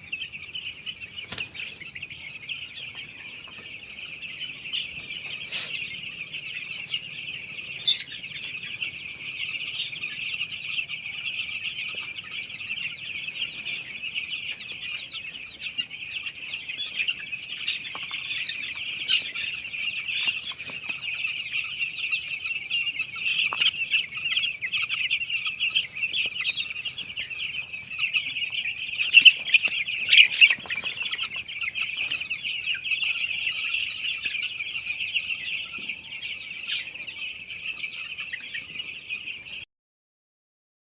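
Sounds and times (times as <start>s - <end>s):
chicks peeping: 0.0s - 39.7s.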